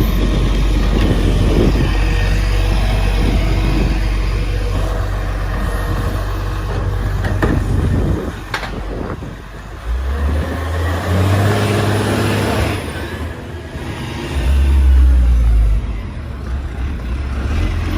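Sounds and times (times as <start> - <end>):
diesel truck engine running: 0.0 - 17.9.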